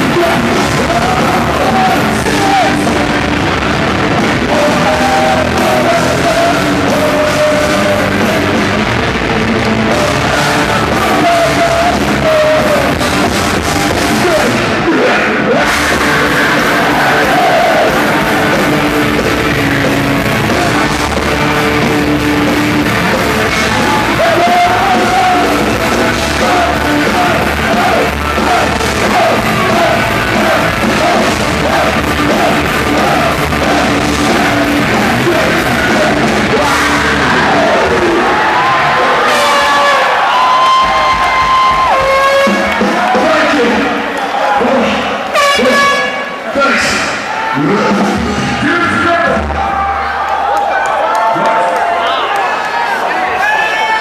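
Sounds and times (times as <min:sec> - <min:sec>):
sung and yelled vocals: 0:00.0 - 0:45.9
rock band playing live: 0:00.0 - 0:50.4.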